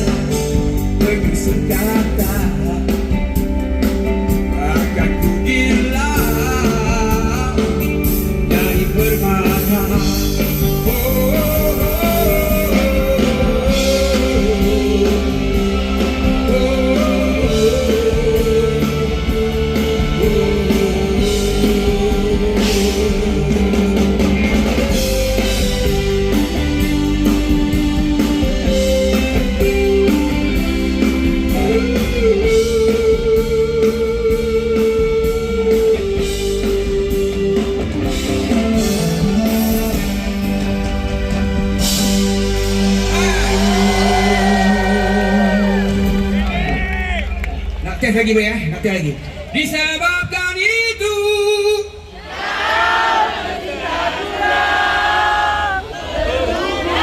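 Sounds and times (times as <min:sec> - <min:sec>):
electric guitar lead melody: 0:00.0 - 0:46.7
live rock band playing: 0:00.0 - 0:48.4.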